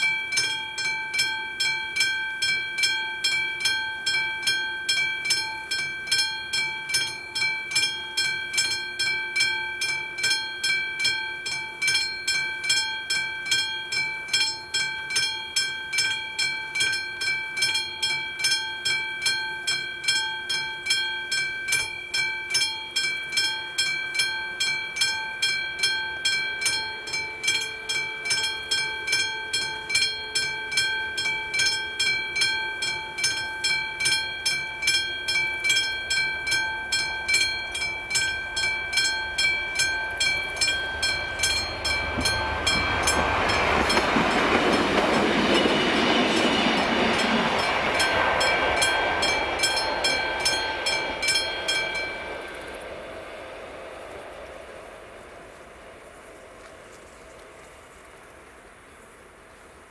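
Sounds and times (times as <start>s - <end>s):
level crossing warning bell: 0.0s - 55.5s.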